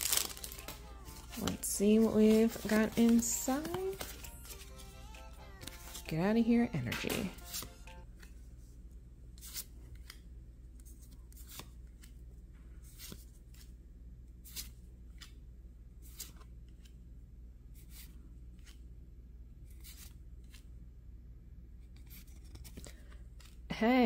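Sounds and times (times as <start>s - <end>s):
low room tone hum: 0.0s - 24.0s.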